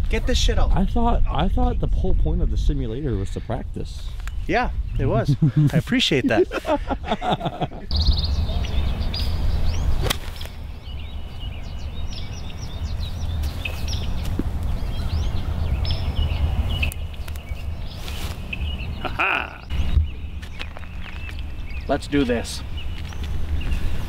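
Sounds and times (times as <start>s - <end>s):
wind rumble on microphone: 0.0s - 5.8s, 6.6s - 19.0s, 19.7s - 24.0s
songbirds chirping: 0.0s - 24.0s.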